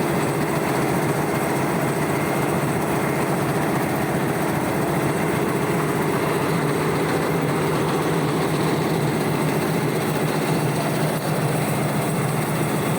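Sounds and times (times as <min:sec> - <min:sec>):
constant machine hum: 0:00.0 - 0:12.9.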